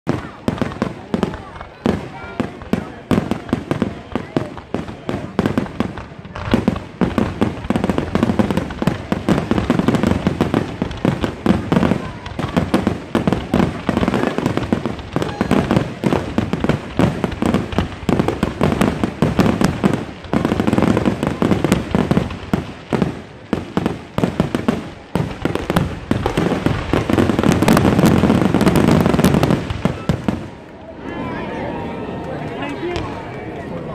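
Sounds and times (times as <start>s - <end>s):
firecracker bangs: 0.1s - 30.6s.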